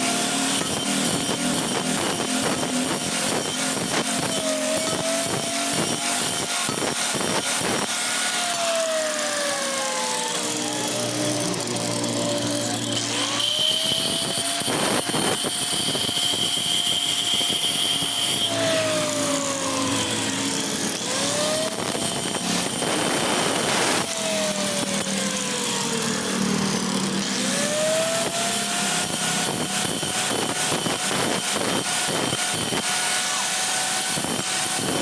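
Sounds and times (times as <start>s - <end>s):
harsh grinding noise: 0.0s - 35.0s
power tool motor whirring: 0.0s - 35.0s.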